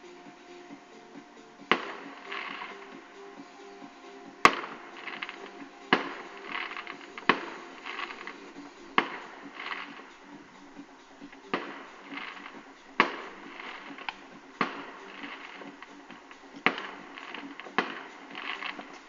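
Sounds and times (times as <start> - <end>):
faint fireworks crackling: 0.0 - 19.0
distant fireworks bangs: 1.6 - 3.6, 4.2 - 19.0.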